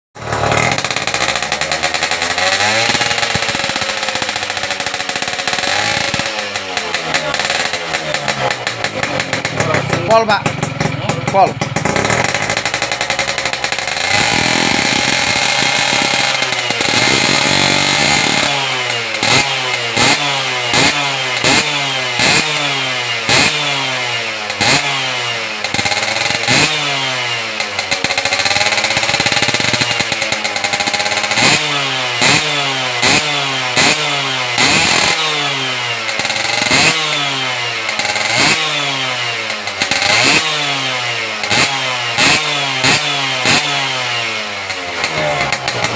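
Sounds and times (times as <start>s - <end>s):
two-stroke motorcycle engine revving: 0.2s - 45.9s.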